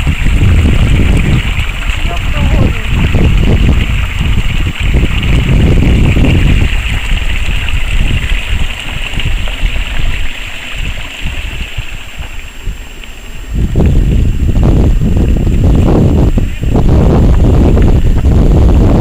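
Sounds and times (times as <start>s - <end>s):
gusty wind buffeting microphone: 0.0s - 19.0s.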